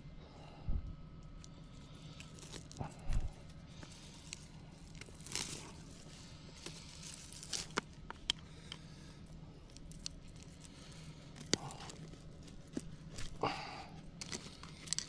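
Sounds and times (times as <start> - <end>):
leaves rustling and tearing: 1.4 - 8.2, 9.7 - 15.0
twigs snapping: 1.4 - 8.8, 9.7 - 15.0.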